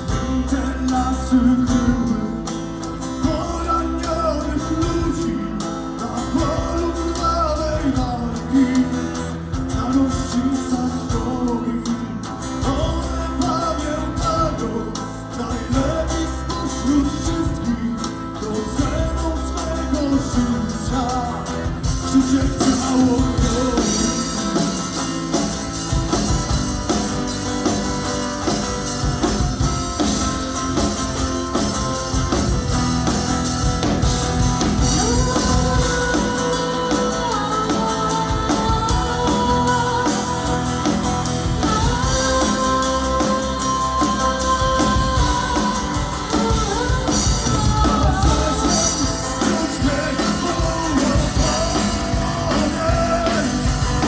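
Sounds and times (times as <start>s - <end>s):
acoustic guitars: 0.0s - 54.0s
acoustic rock band playing: 0.0s - 54.0s
bass guitar: 0.0s - 54.0s.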